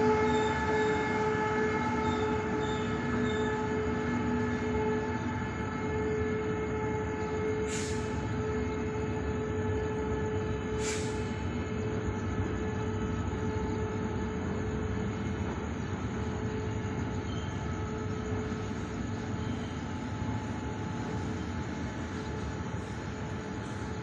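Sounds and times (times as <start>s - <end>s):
freight train rumbling: 0.0s - 24.0s.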